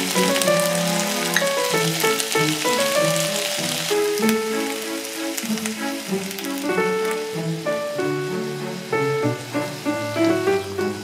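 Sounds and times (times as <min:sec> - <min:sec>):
background piano music: 0:00.0 - 0:11.0
vegetables sizzling in oil: 0:00.0 - 0:11.0.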